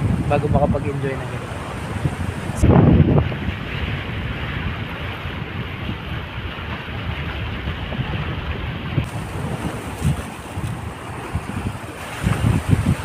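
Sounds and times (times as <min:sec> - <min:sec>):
sea waves washing against rocks: 0:00.0 - 0:13.0
wind buffeting microphone: 0:00.0 - 0:13.0.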